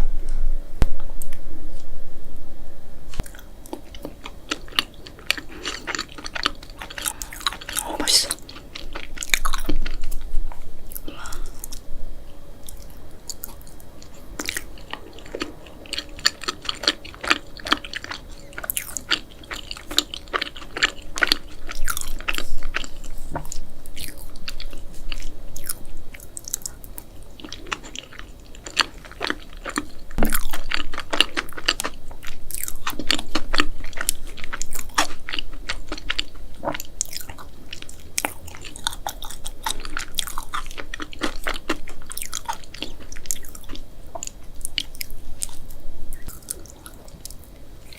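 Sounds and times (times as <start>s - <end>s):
person chewing and biting food: 3.2s - 11.8s, 12.6s - 47.9s.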